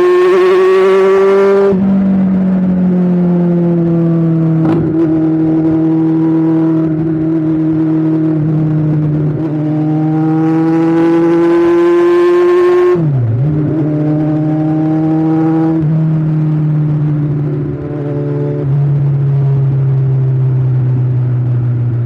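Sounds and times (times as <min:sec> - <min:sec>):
motorcycle engine at high revs: 0:00.0 - 0:22.0.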